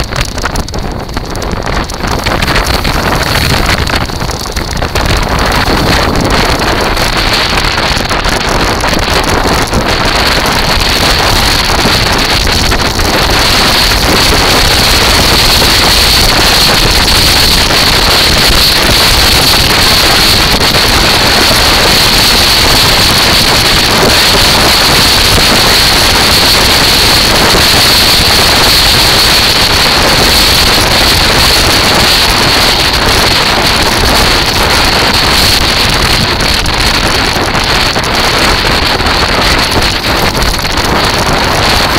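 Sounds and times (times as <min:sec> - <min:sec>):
wheels grinding over stones: 0:00.0 - 0:41.9
wind buffeting microphone: 0:00.0 - 0:41.9.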